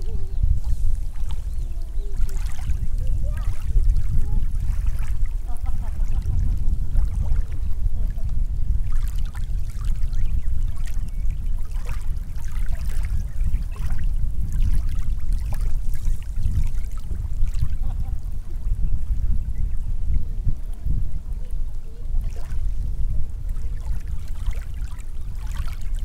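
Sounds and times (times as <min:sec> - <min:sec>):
little splashes: 0:00.0 - 0:18.7, 0:20.6 - 0:22.9, 0:23.5 - 0:26.0
small waves lapping: 0:00.0 - 0:26.0
wind rumble on microphone: 0:00.0 - 0:26.0.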